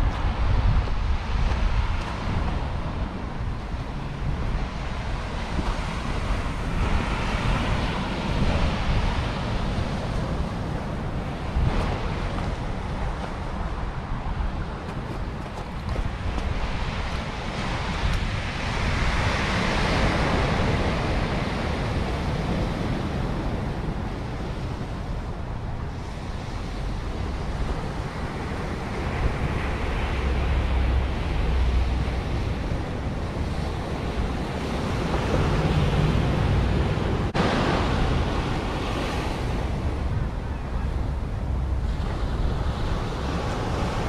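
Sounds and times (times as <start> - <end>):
ocean surf breaking on beach: 0.0 - 44.0
wind rumbling on microphone: 0.0 - 44.0.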